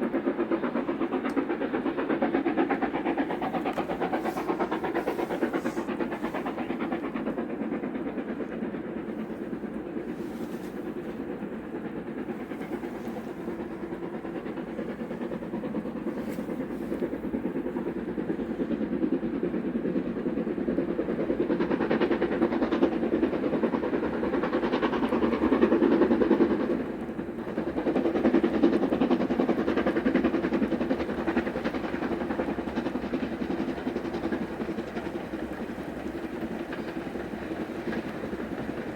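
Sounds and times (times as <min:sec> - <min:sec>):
steam train rumbling on rails: 0:00.0 - 0:38.9.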